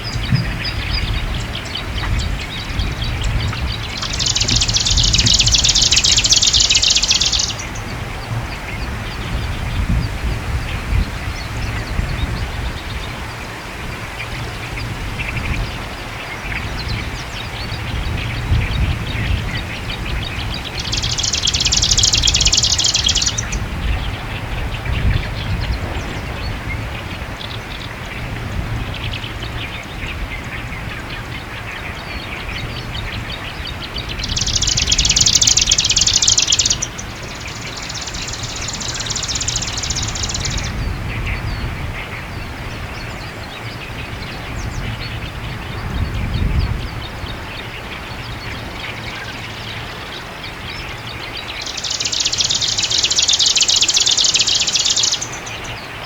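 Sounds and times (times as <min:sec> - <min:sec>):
bird buzzy song phrases: 0:00.0 - 0:29.6, 0:32.0 - 0:41.7, 0:42.9 - 0:56.0
wind rumbling on microphone: 0:00.0 - 0:56.0.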